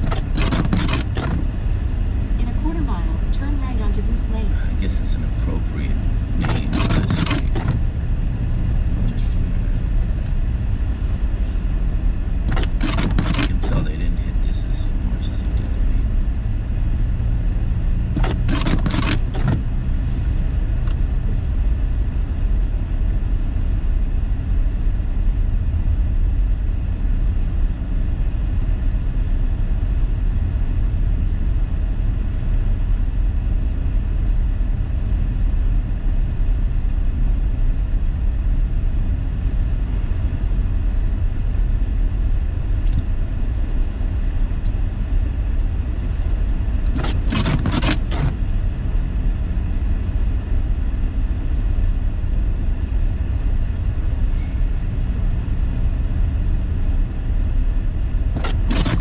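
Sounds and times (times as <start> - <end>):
car driving on snowy road: 0.0 - 59.0.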